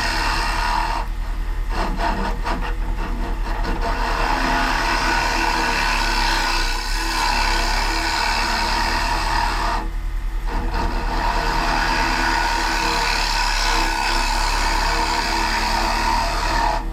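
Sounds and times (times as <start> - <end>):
lathe motor hum: 0.0 - 16.9
turning tool scraping wood: 0.0 - 16.9.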